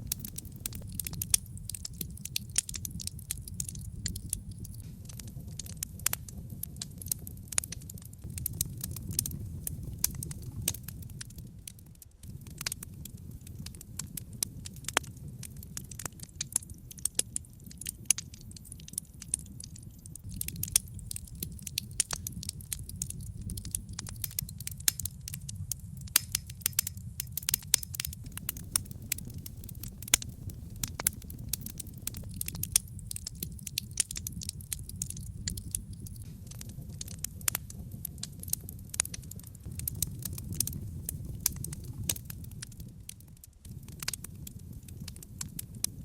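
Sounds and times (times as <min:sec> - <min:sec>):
fire crackles and pops: 0:00.0 - 0:46.0
low rumble of flames: 0:00.0 - 0:46.0.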